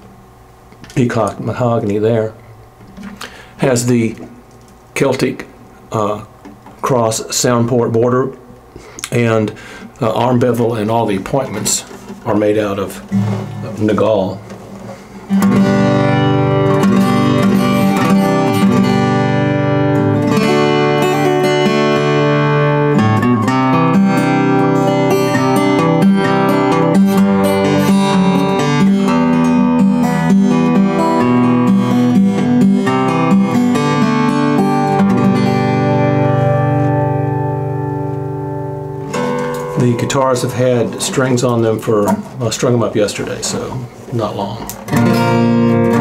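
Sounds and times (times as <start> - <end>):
acoustic guitar chords and picking: 0.0 - 46.0.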